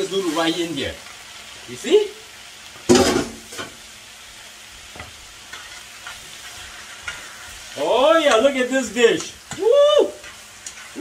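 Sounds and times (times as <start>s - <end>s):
noodles sizzling in a frying pan: 0.0s - 11.0s.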